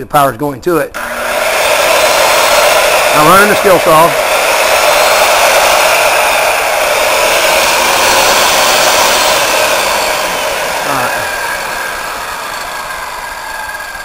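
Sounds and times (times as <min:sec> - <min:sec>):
circular saw running free: 0:01.0 - 0:14.0.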